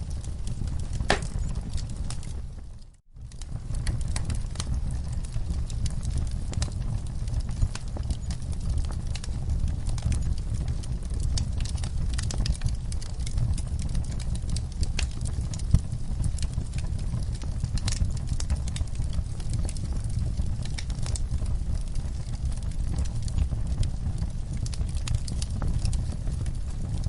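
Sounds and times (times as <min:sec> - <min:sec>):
fire crackling and popping: 0:00.0 - 0:27.0
fire flames rumbling: 0:00.0 - 0:27.0.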